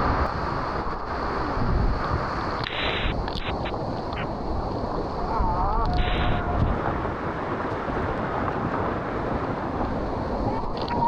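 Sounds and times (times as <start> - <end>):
steady rushing noise: 0.0 - 11.0
wind buffeting microphone: 0.0 - 11.0.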